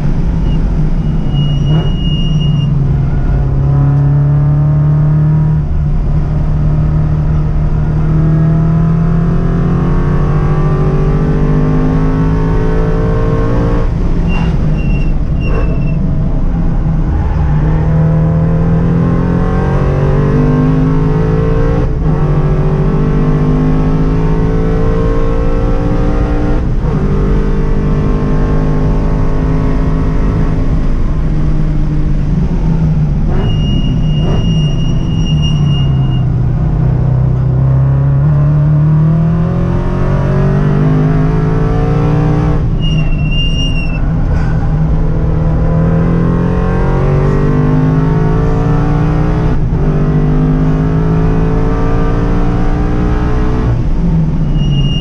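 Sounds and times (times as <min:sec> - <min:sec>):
car engine revving hard: 0:02.9 - 0:15.7, 0:16.8 - 0:42.8, 0:44.4 - 0:54.8.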